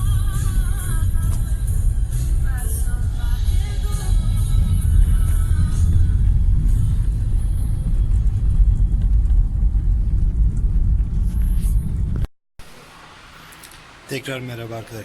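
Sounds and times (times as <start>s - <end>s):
car rumbling in motion: 0.0s - 14.1s.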